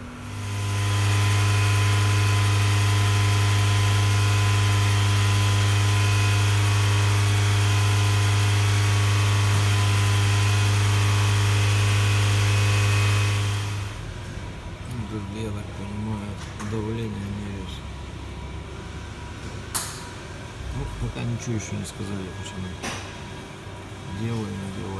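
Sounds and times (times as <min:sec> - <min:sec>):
machine hum: 0:00.0 - 0:24.9.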